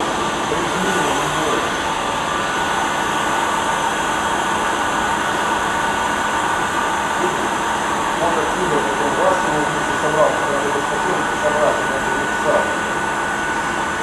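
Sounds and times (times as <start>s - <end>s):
blower motor whirring: 0.0s - 14.0s.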